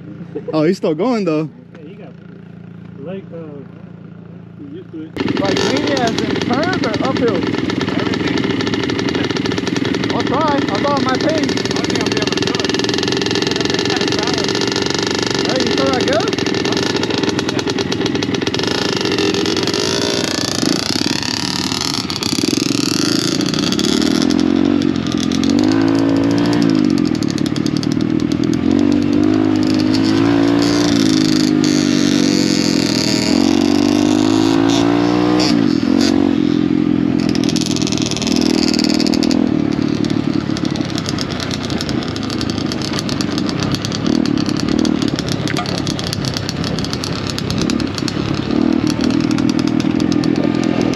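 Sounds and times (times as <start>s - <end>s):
pit bike engine revving: 0.0s - 50.9s.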